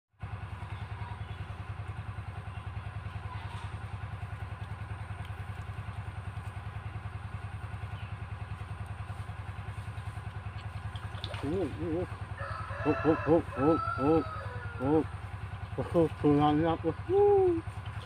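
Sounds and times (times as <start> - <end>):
small engine running: 0.2 - 18.0.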